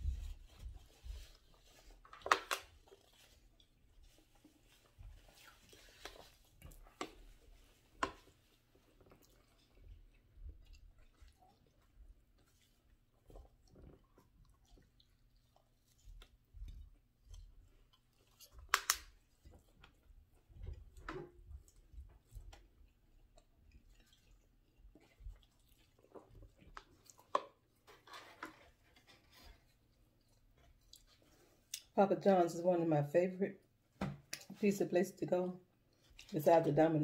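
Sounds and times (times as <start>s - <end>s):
person chewing pizza: 0.4s - 28.1s, 28.7s - 31.9s.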